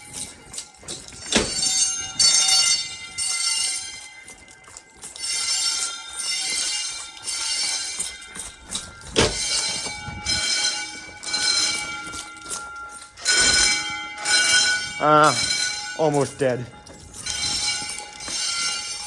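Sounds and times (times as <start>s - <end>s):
fire alarm bells ringing: 0.0s - 19.0s.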